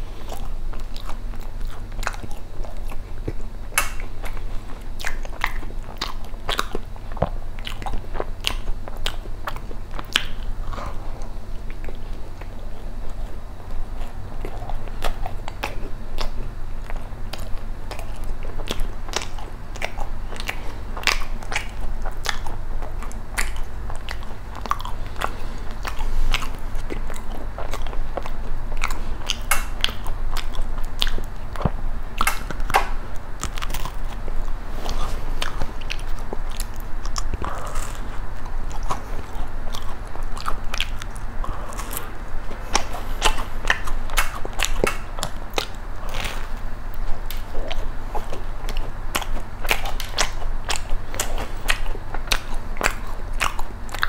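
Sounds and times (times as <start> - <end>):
biting and chewing: 0.0 - 54.0.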